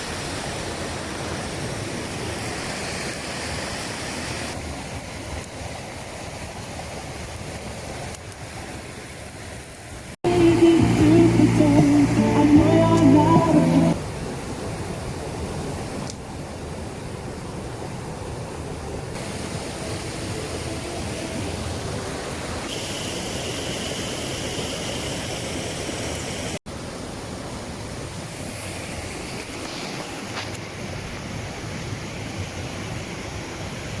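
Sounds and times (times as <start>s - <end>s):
river rushing: 0.0s - 34.0s.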